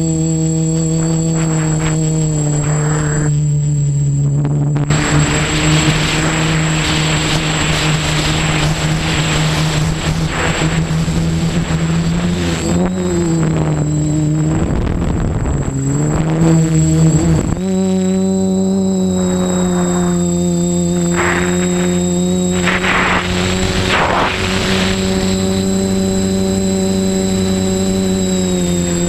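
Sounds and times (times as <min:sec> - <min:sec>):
quadcopter motors humming: 0:00.0 - 0:29.0
wind on microphone: 0:00.6 - 0:29.0.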